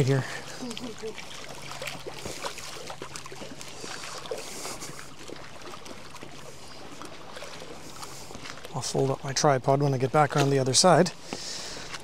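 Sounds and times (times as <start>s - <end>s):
water lapping among rocks: 0.0s - 12.0s.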